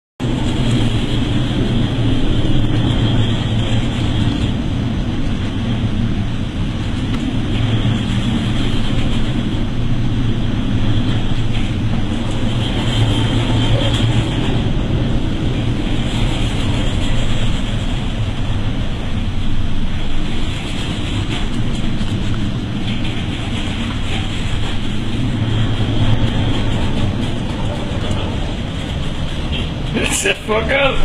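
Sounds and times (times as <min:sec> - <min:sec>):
low engine drone: 0:00.2 - 0:31.0
wind noise on microphone: 0:00.2 - 0:31.0.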